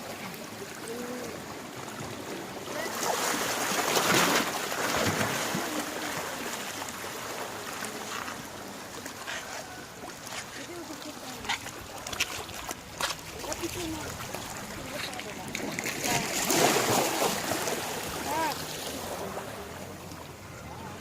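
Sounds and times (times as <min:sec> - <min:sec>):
sea waves washing on beach: 0:00.0 - 0:21.0.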